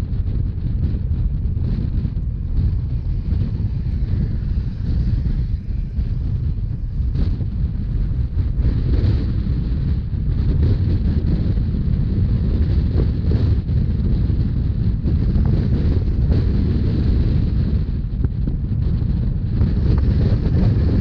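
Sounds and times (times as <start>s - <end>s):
train rumbling: 0.0s - 21.0s
wind buffeting microphone: 0.0s - 21.0s.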